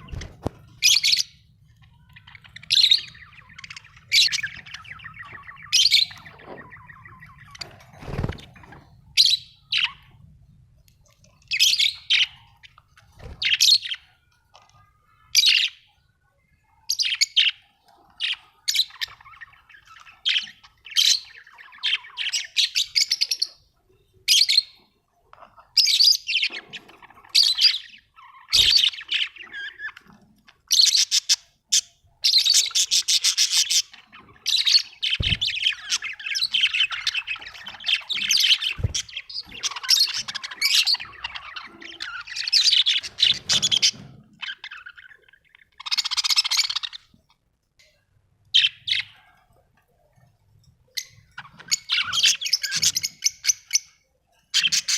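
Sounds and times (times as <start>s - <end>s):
budgerigars chirping and warbling: 0.0s - 10.4s, 11.2s - 47.5s, 48.5s - 49.6s, 50.2s - 54.9s.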